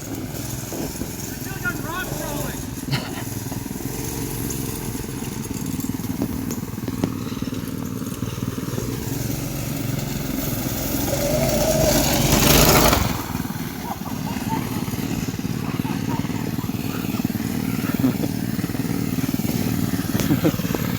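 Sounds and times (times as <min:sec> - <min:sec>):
small vehicle engine revving: 0:00.0 - 0:20.9.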